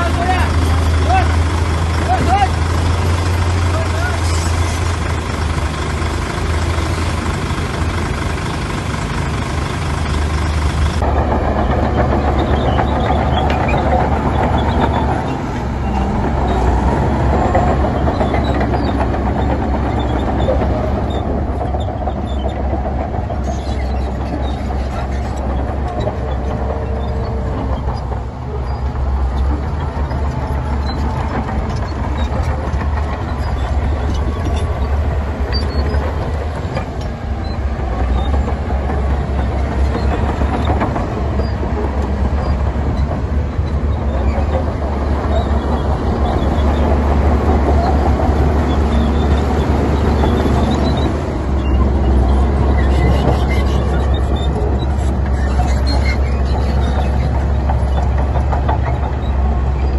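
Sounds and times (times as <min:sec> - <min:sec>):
heavy diesel machinery rumbling: 0:00.0 - 0:59.9.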